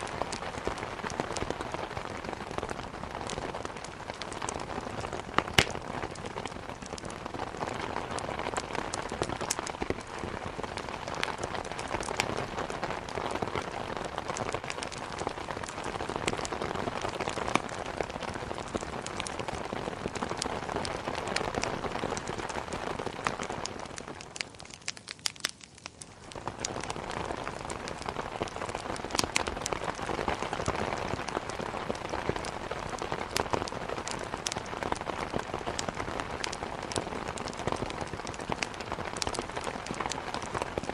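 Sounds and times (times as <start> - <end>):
heavy rain falling: 0.0 - 24.6, 26.1 - 40.9.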